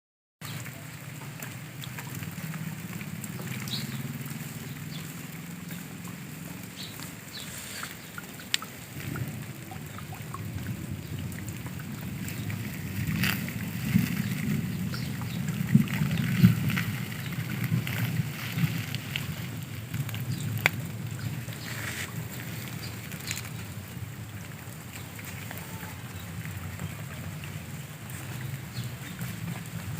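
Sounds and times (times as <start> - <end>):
rainwater running and trickling: 0.4 - 29.9
water drips ticking: 0.4 - 29.9
wind rumble on microphone: 2.2 - 29.9.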